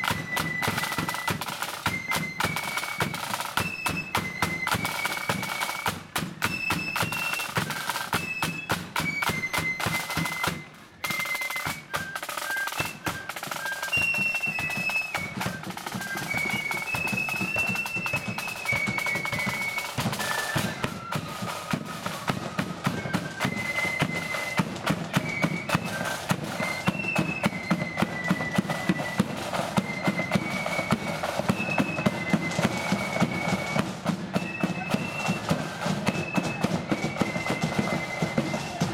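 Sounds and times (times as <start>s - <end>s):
flute melody: 0.0s - 38.9s
snare drum strokes: 0.0s - 38.9s.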